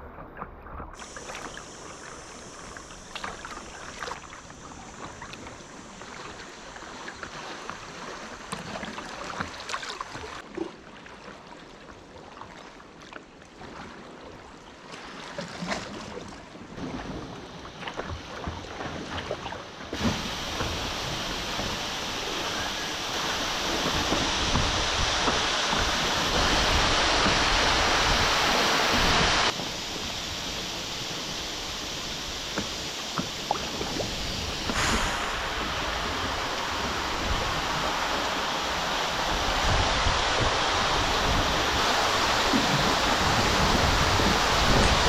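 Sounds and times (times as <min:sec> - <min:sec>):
water rushing: 0:01.0 - 0:10.5, 0:16.8 - 0:45.0.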